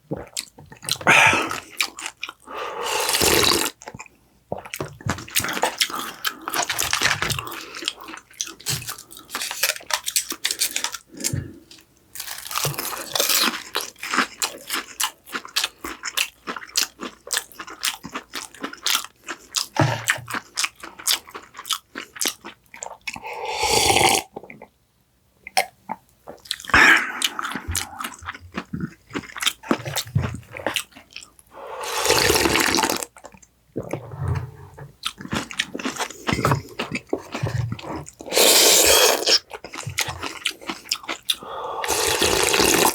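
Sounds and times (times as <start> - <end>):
person chewing with crunches: 0.1 - 24.7, 25.4 - 42.9.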